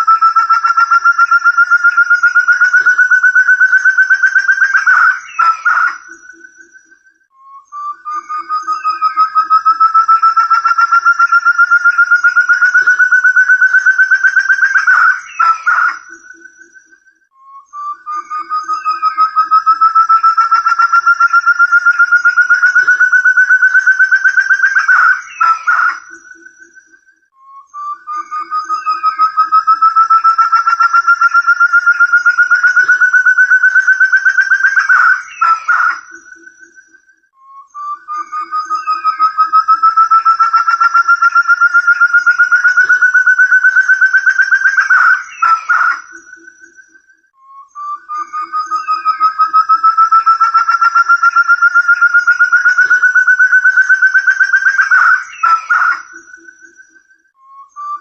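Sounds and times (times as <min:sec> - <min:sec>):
partridge whistled call: 0:00.0 - 0:58.0.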